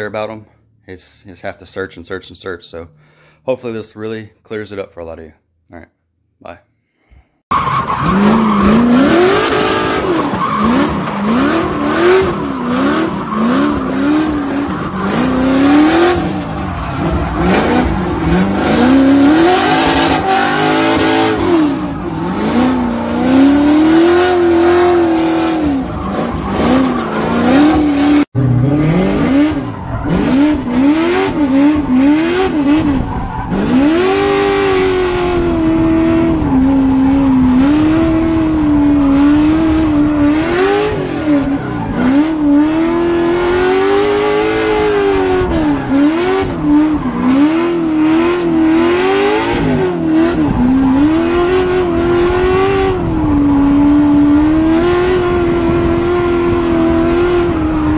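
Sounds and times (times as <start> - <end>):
car engine revving: 7.5 - 57.9.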